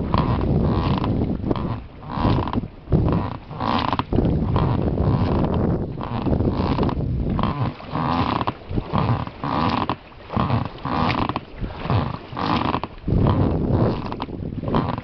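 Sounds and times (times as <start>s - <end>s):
oars splashing in water: 0.0s - 15.0s.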